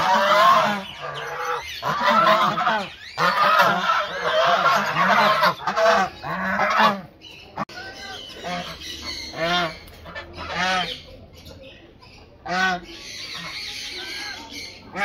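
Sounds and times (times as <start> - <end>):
geese honking: 0.0 - 11.1, 12.4 - 15.0.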